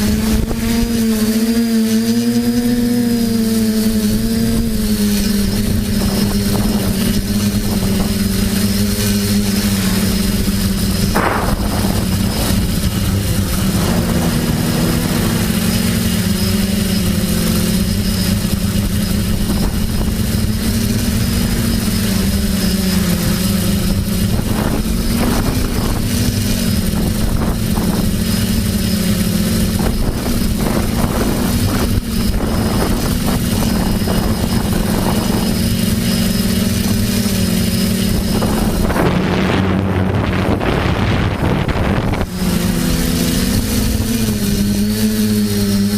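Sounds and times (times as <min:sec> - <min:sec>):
quadcopter propellers whirring: 0:00.0 - 0:45.9.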